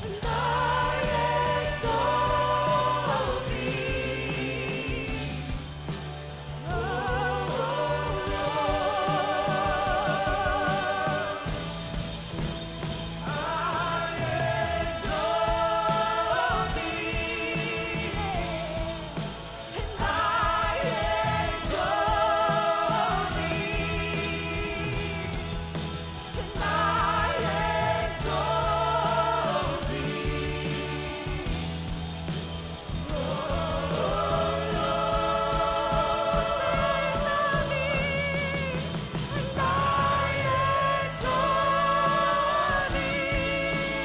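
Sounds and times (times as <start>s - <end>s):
band accompaniment: 0.0s - 44.0s
singers holding long notes: 0.0s - 44.0s.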